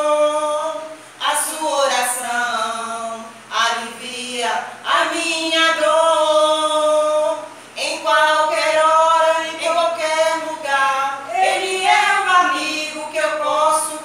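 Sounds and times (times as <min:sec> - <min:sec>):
two women singing a duet: 0:00.0 - 0:14.0.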